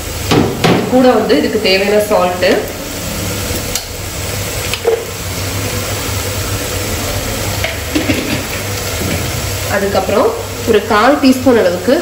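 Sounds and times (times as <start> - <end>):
food sizzling in a pan: 0.0 - 12.0
steady low hum: 0.0 - 12.0.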